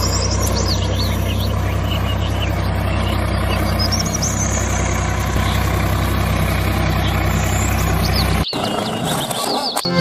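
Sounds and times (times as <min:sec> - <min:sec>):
bird chirps: 0:00.0 - 0:05.8, 0:06.8 - 0:10.0
diesel tractor engine running: 0:00.0 - 0:10.0.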